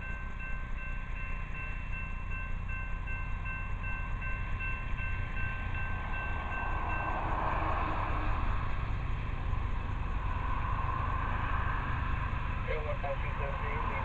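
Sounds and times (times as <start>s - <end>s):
freight train rumble: 0.0s - 14.0s
pulsing high ringing tone: 0.0s - 14.0s.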